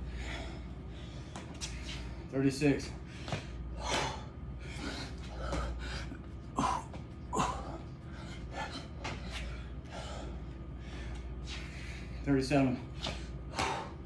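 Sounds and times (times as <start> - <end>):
man breathing hard: 0.0 - 2.3, 2.9 - 12.3, 12.9 - 14.0
low hum: 0.0 - 14.0.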